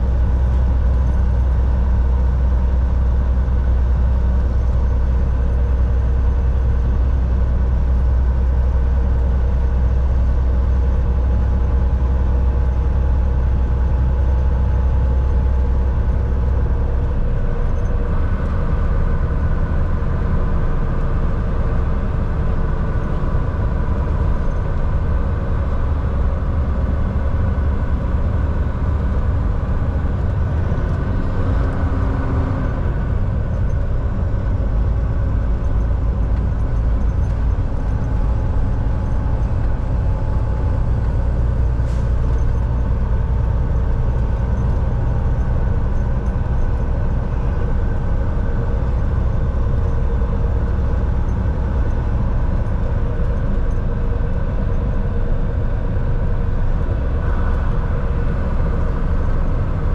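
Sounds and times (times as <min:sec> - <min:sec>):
road noise: 0:00.0 - 0:59.9
truck diesel engine drone: 0:00.0 - 0:59.9.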